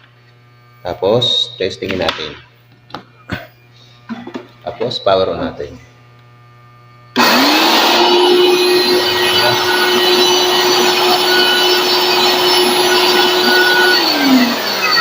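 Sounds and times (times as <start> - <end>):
vacuum cleaner whine: 2.9 - 15.0.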